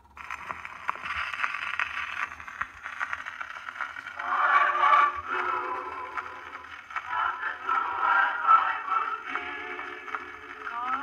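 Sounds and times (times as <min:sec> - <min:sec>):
phonograph music: 0:00.0 - 0:11.0
record surface hiss and crackle: 0:00.0 - 0:11.0.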